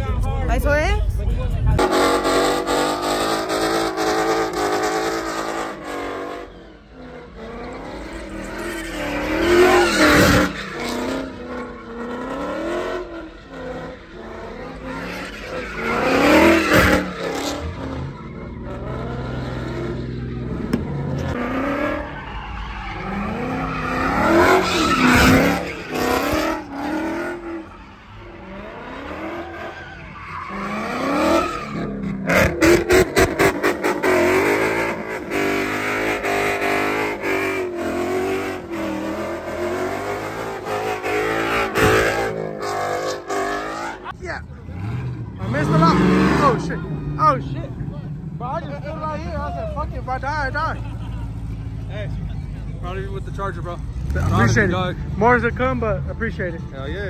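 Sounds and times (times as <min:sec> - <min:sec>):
car engine revving: 0:01.6 - 0:57.0
tyres screeching on pavement: 0:01.8 - 0:56.7.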